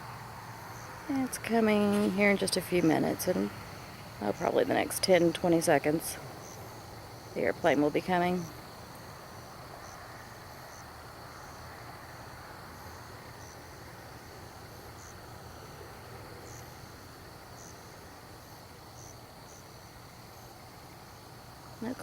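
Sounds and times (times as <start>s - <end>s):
crickets chirping: 0.0s - 22.0s
faint steady hiss: 0.0s - 22.0s.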